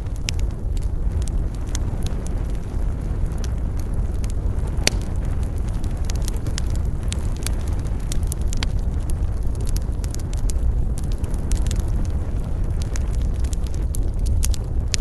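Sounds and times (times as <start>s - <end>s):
fire pops and snaps: 0.0s - 15.0s
low rumble: 0.0s - 15.0s
wood fire crackling: 0.0s - 15.0s.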